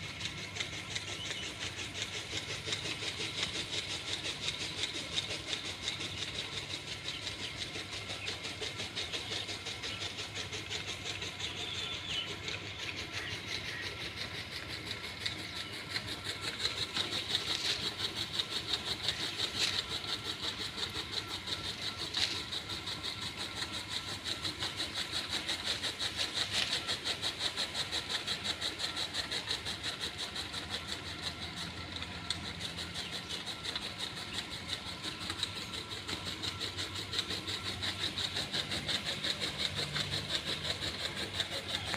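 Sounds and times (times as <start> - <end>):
motor-driven machine running: 0.0 - 41.9.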